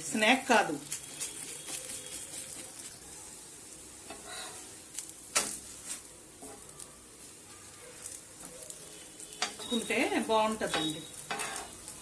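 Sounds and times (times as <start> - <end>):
flatbread frying in oil: 0.0 - 12.0.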